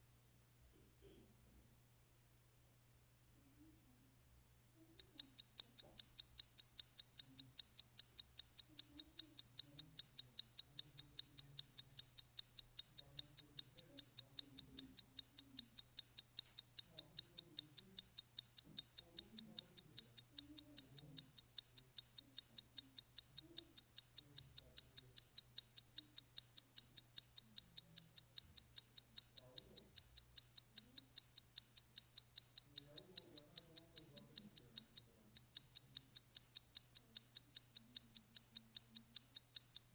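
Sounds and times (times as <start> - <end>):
clock-like ticking: 5.0 - 39.9.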